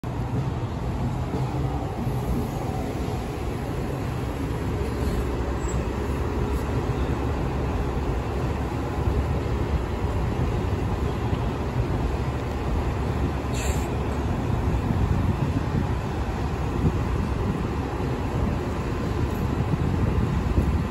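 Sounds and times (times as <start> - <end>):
bus engine rumble: 0.0 - 20.9.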